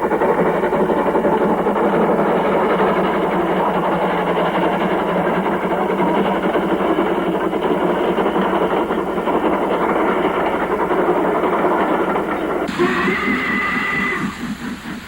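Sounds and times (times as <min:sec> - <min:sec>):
steam locomotive working hard: 0:00.0 - 0:15.0.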